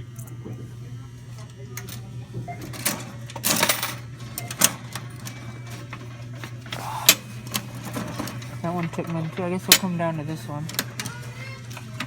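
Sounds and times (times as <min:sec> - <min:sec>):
vending machine mechanism clicking: 0:01.8 - 0:12.0.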